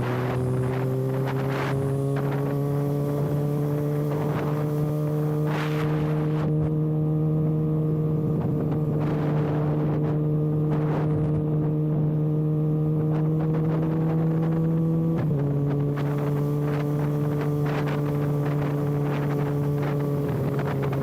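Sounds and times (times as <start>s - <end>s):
motorcycle engine at steady revs: 0.0s - 21.0s.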